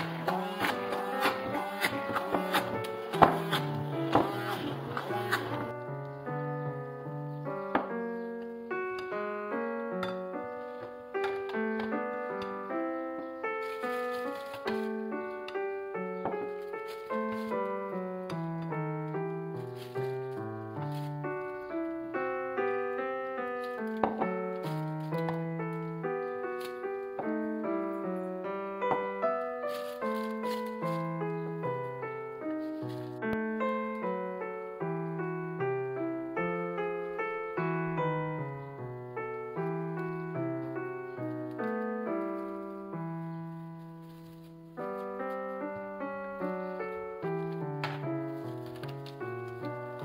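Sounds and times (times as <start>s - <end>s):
gentle piano music: 0.0s - 50.0s.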